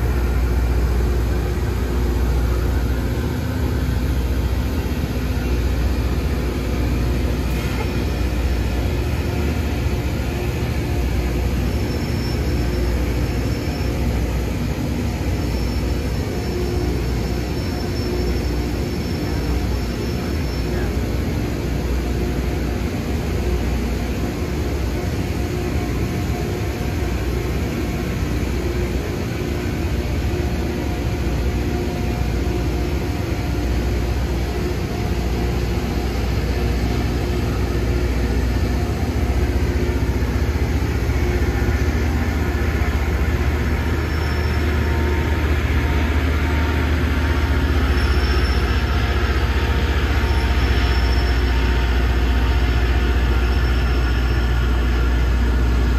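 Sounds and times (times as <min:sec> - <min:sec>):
rail grinding train rumbling: 0:00.0 - 0:55.9.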